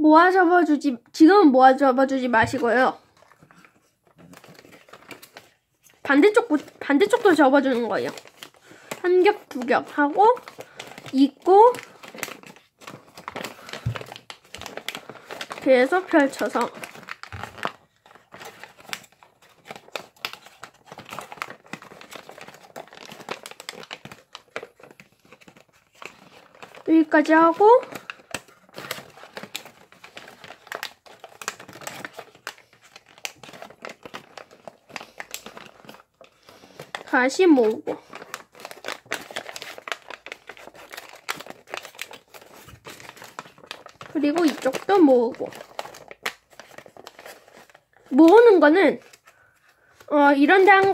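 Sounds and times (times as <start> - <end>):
paper crinkling and rustling: 2.2 - 50.9.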